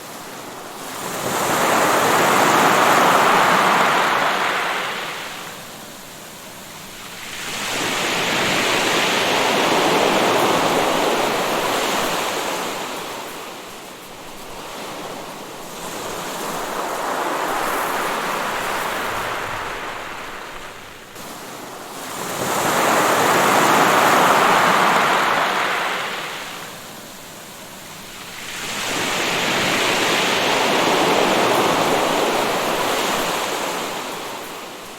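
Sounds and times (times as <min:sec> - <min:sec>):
waves washing onto shore: 0:00.0 - 0:34.9.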